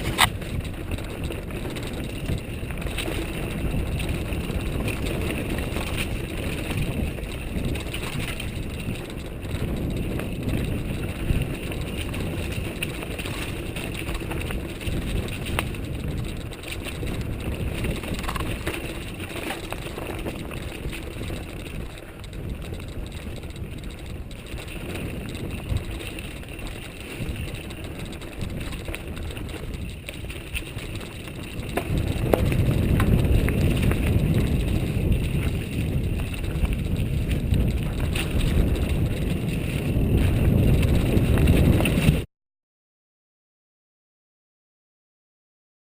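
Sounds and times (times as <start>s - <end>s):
bike rattling over bumps: 0.0s - 42.3s
bike tyre rumble on dirt: 0.0s - 42.3s
wind buffeting microphone: 0.0s - 42.3s.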